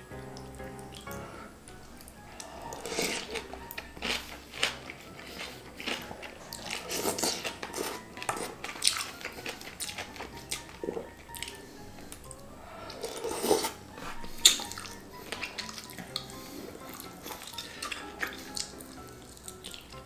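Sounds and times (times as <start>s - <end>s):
noodles slurped and chewed: 0.4s - 20.0s.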